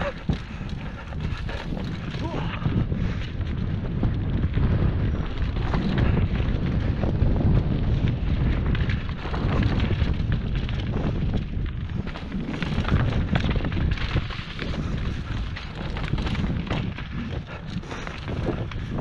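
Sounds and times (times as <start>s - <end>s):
bike rattling over rocks: 0.0s - 19.0s
wind rumbling on microphone: 0.0s - 19.0s.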